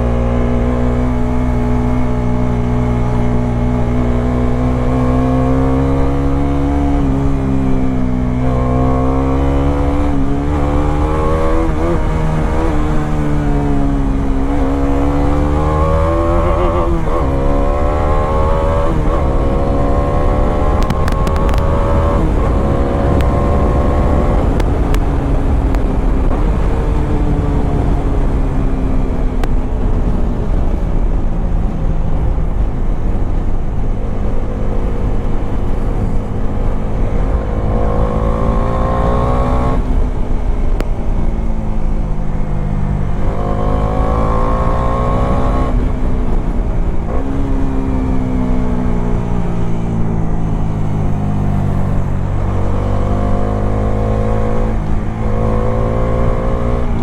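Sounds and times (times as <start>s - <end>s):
motorcycle engine revving: 0.0s - 57.0s
wind on microphone: 0.0s - 57.0s.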